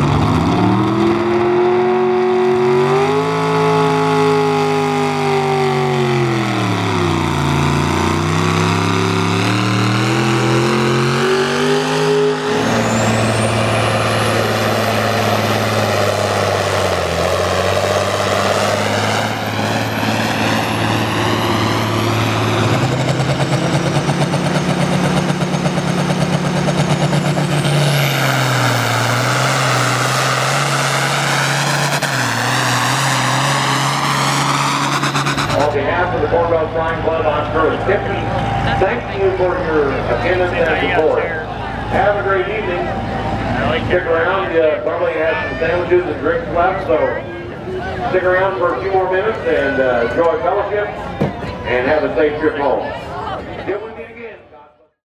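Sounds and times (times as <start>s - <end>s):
high engine whine: 0.0s - 54.9s
engines working hard under load: 0.0s - 55.0s.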